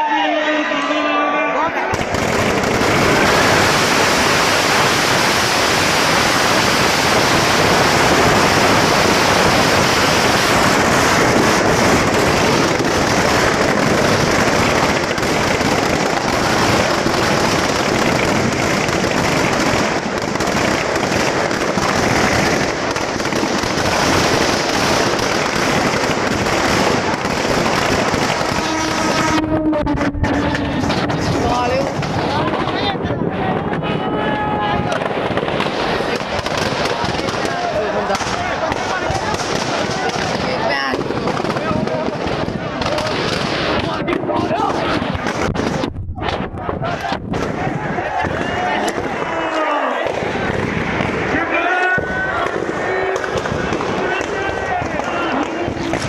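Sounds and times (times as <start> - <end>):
firecrackers going off: 1.8 - 56.0.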